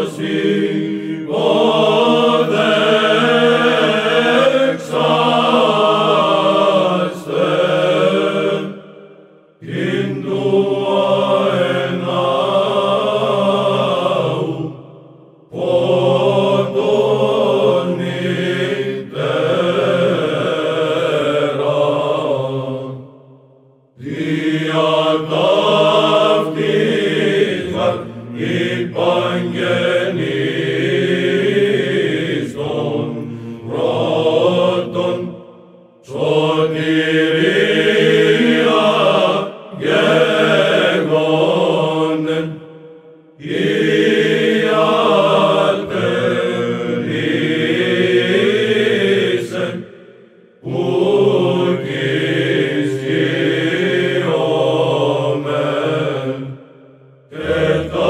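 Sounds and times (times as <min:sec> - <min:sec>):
male choir chanting: 0:00.0 - 0:23.4, 0:24.0 - 0:58.0.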